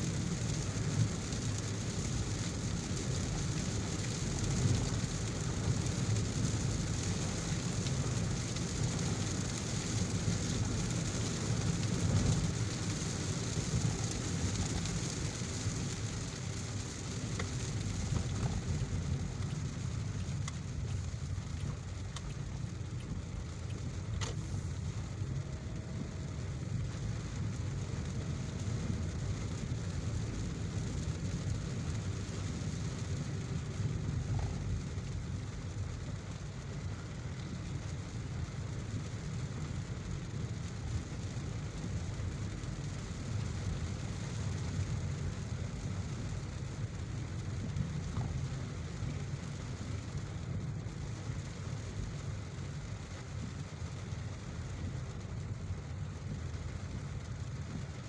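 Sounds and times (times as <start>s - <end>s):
car engine and tyres on wet road: 0.0s - 58.0s
rain hiss: 0.0s - 58.0s.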